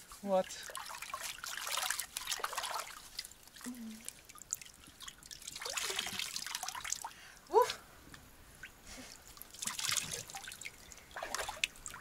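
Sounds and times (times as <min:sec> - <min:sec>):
water splashing and trickling: 0:00.0 - 0:07.8, 0:08.5 - 0:12.0
water dripping into creek: 0:00.3 - 0:12.0.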